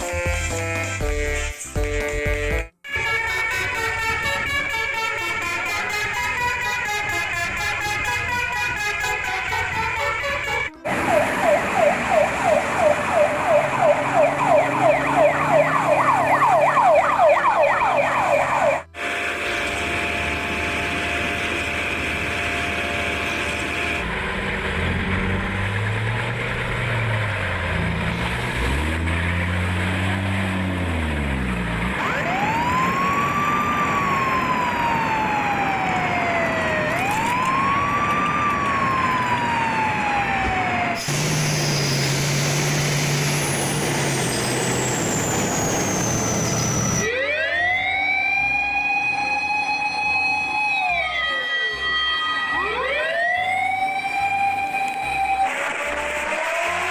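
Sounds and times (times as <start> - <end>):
yelp siren: 2.9 - 24.0, 32.0 - 56.9
wail siren: 2.9 - 24.1, 32.0 - 56.9.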